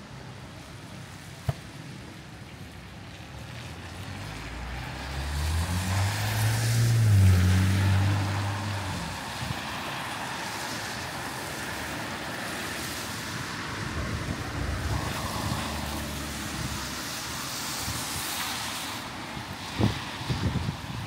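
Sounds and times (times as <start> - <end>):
rain hissing on wet street: 0.0 - 21.0
vehicle passing on wet road: 2.8 - 21.0.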